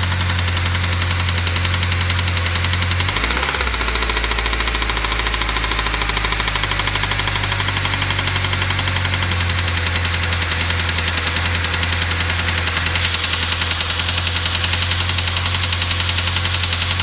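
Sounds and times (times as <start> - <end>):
petrol engine running: 0.0 - 17.0
rapid ticking engine knock: 0.0 - 17.0.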